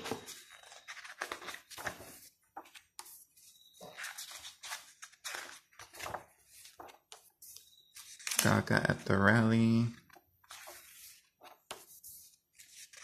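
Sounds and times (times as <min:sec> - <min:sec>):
book pages turning: 0:00.0 - 0:13.0.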